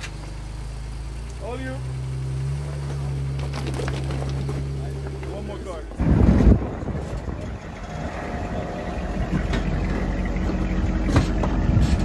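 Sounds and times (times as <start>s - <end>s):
engine humming at low crawl: 0.0s - 12.0s.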